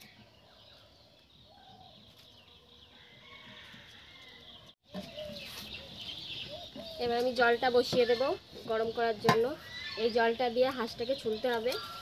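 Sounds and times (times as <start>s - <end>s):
birds calling: 0.0s - 12.0s
faint rural ambience: 0.0s - 12.0s.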